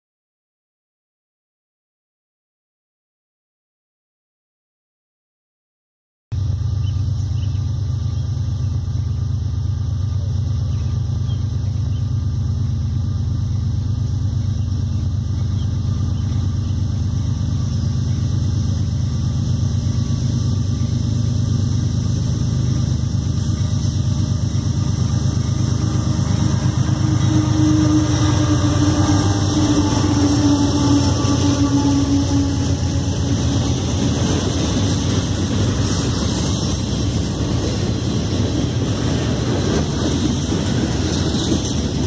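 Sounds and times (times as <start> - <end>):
diesel locomotive engine rumbling: 6.3 - 42.0.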